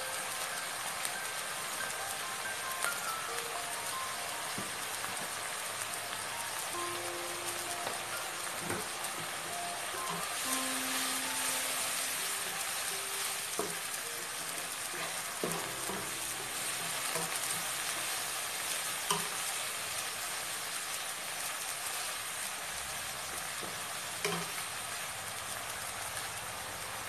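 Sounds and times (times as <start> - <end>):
stir-frying sizzle: 0.0 - 27.0.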